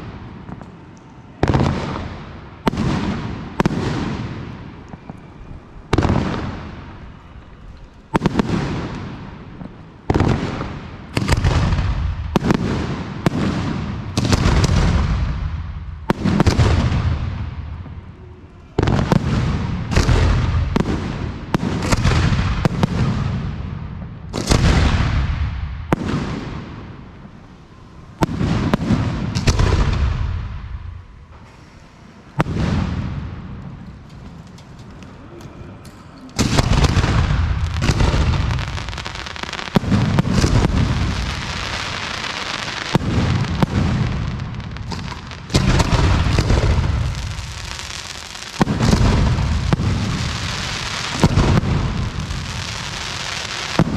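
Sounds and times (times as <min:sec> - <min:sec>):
fireworks bursting with echo: 0:00.0 - 0:35.1, 0:36.3 - 0:53.9.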